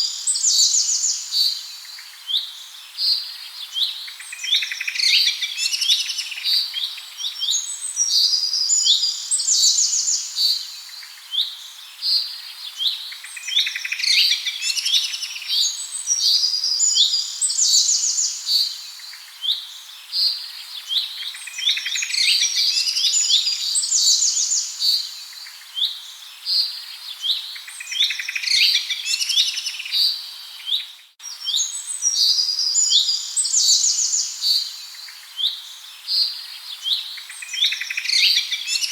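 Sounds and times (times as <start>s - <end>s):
small songbirds chirping and trilling: 0.0s - 38.9s.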